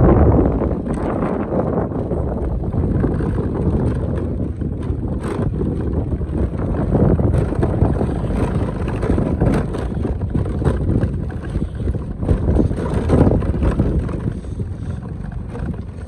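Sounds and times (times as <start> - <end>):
motorcycle engine running: 0.0 - 16.0
rocks knocking under wheels: 0.0 - 16.0
wind rushing on microphone: 0.0 - 16.0.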